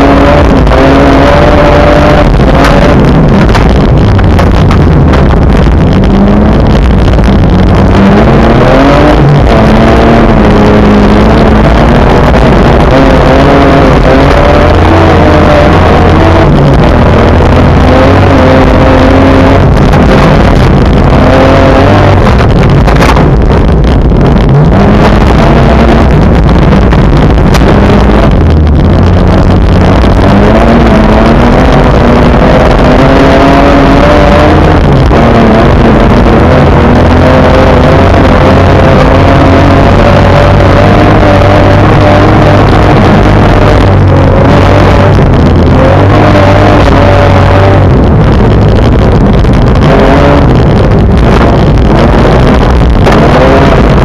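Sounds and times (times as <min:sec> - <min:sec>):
car engine revving: 0:00.0 - 0:54.0
road and tyre noise: 0:00.0 - 0:54.0.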